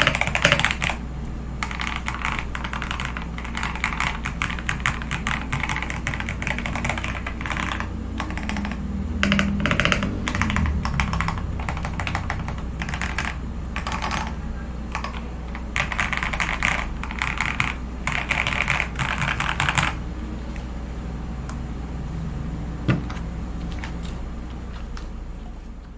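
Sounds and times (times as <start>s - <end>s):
computer keyboard typing: 0.0s - 1.0s, 1.6s - 20.0s, 22.9s - 25.1s
steady low hum: 0.0s - 25.9s.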